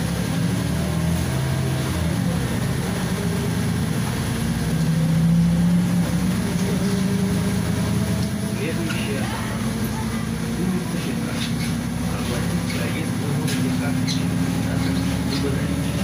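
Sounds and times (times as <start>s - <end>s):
bus engine running: 0.0s - 16.0s
road noise: 0.0s - 16.0s.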